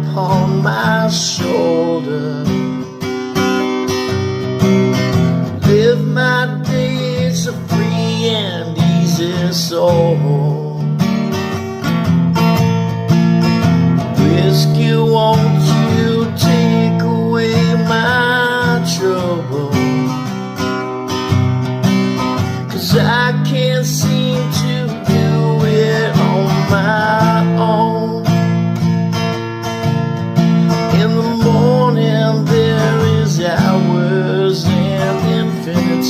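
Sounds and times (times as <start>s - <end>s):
acoustic guitar strumming: 0.0s - 36.0s
guitar melody with pitch bends: 0.0s - 36.0s.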